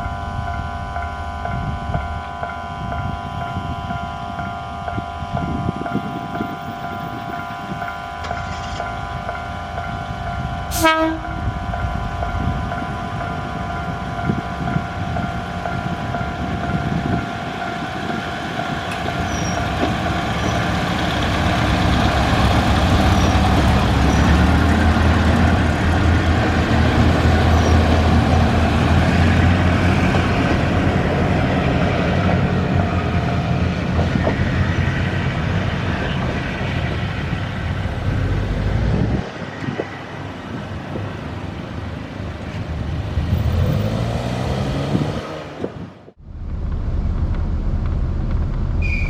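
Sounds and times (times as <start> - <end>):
diesel railcar engine rumbling: 0.0 - 49.0.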